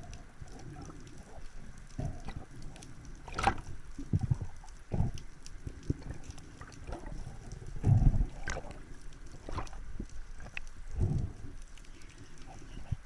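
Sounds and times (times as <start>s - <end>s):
faint ticks: 0.0s - 13.0s
water sloshing and gurgling: 0.0s - 13.0s.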